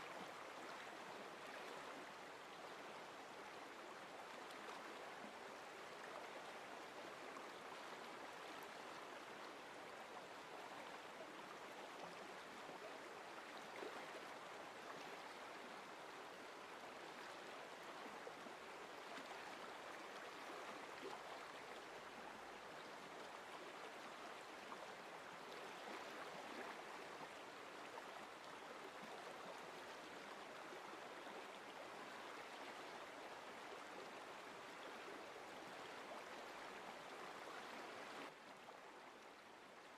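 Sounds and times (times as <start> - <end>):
faint stream of running water: 0.0 - 39.9.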